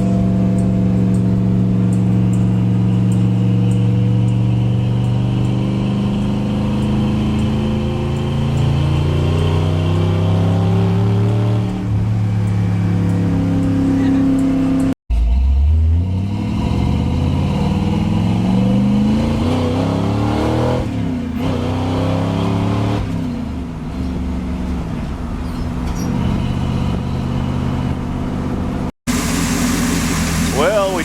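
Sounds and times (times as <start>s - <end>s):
truck engine accelerating: 0.0s - 31.0s.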